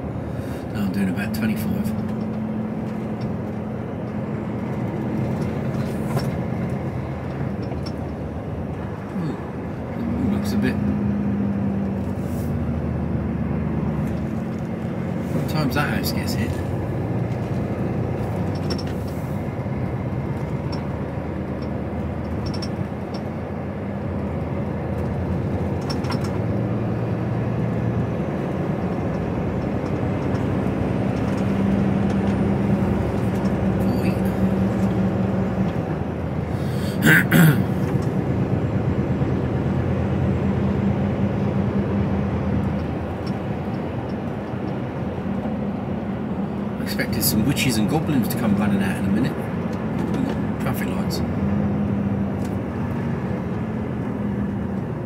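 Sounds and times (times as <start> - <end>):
lorry diesel engine running: 0.0 - 55.0.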